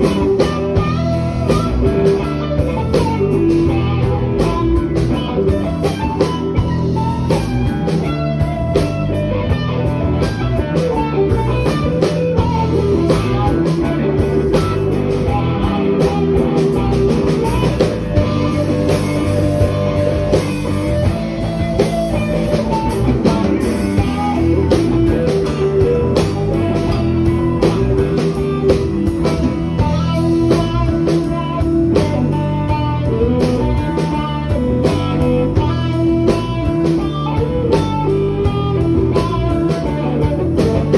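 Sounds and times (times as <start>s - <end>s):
bass guitar: 0.0s - 40.9s
drums keeping a steady beat: 0.0s - 40.9s
electric guitar: 0.0s - 40.9s.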